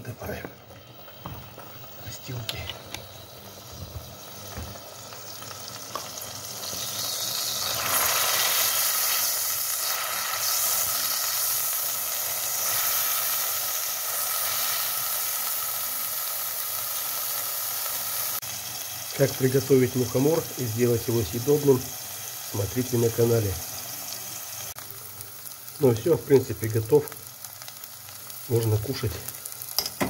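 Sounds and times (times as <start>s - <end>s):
mushroom sizzling in oil: 0.1s - 30.0s.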